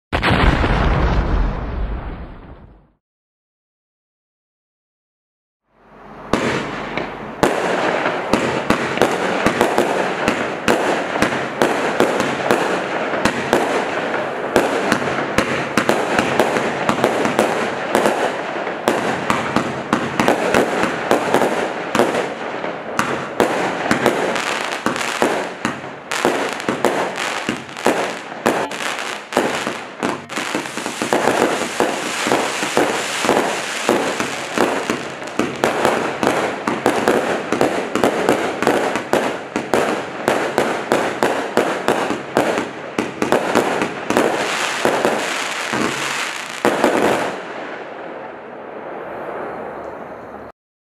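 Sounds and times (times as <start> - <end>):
firework bursts: 0.2 - 2.2, 6.0 - 47.8
hissing crackling fireworks: 0.2 - 2.2, 6.0 - 50.5.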